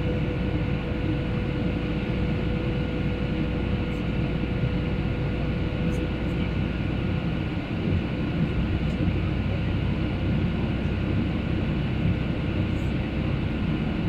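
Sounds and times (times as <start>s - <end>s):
jet engine and airflow noise: 0.0s - 14.0s.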